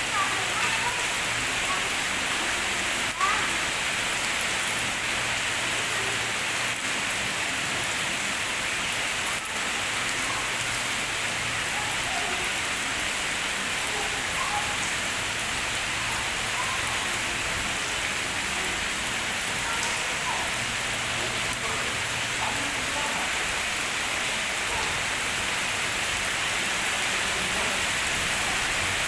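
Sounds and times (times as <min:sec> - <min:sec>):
rain falling on a pond: 0:00.0 - 0:29.0.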